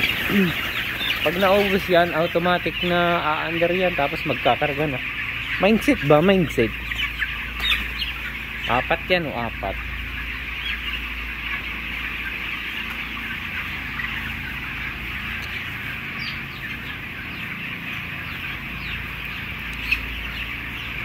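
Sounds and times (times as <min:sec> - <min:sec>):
chickens peeping: 0:00.0 - 0:21.0
loud chick chirp: 0:00.0 - 0:21.0.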